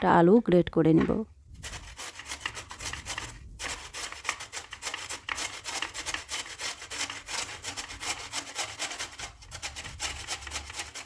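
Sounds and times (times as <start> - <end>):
potato grated on hand grater: 1.6 - 11.0.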